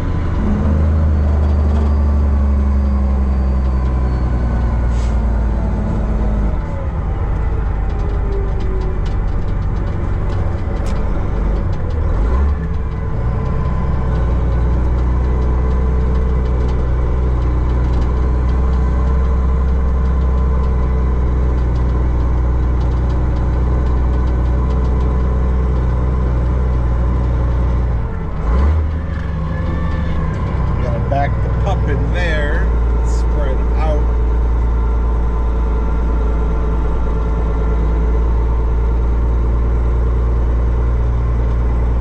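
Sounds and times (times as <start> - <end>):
diesel truck engine at low revs: 0.0 - 42.0.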